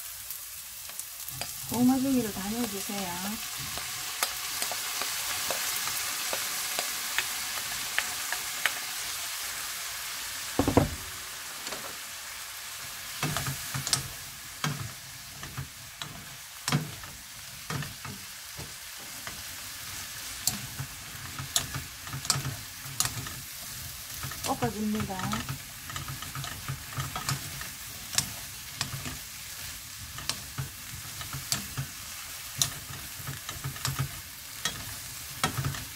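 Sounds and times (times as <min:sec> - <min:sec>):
food sizzling in oil: 0:00.0 - 0:35.9.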